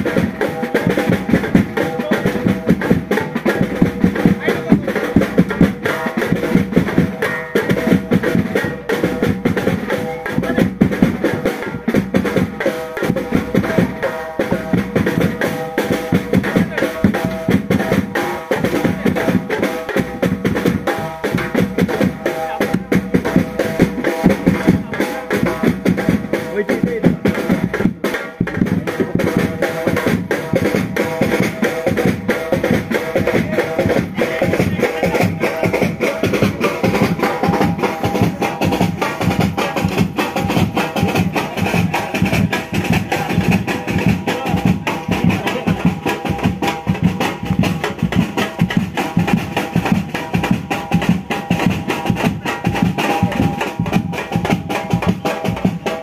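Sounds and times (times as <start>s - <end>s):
drums beating fast rhythm: 0.0s - 56.0s
procession band music: 0.0s - 56.0s.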